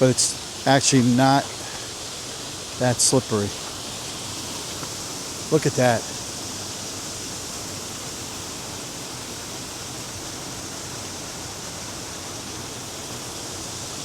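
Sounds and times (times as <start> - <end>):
water rushing over dam: 0.0 - 14.0.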